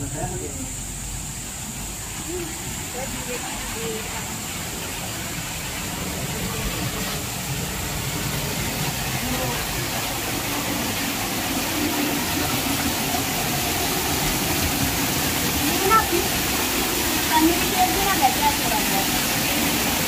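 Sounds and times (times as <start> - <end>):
water pouring into a pool: 1.1 - 20.0.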